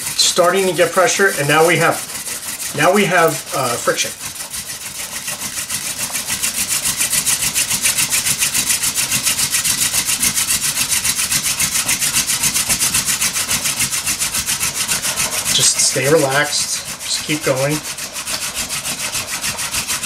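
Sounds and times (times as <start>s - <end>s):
hand drill spindle grinding wood: 0.0s - 20.0s.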